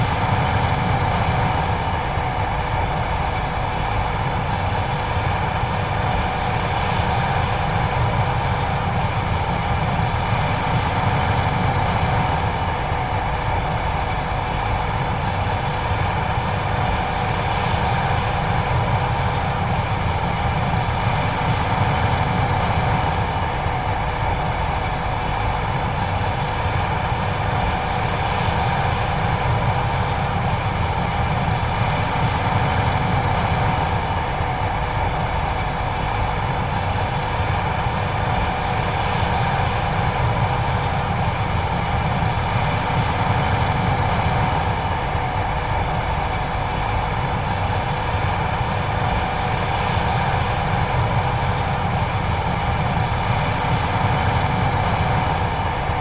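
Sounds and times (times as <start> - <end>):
combine harvester machinery drone: 0.0 - 56.0.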